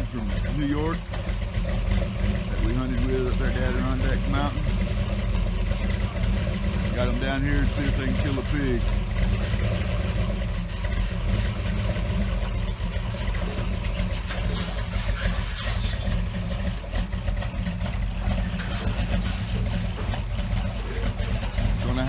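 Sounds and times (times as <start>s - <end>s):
engine running at low revs: 0.0s - 22.0s.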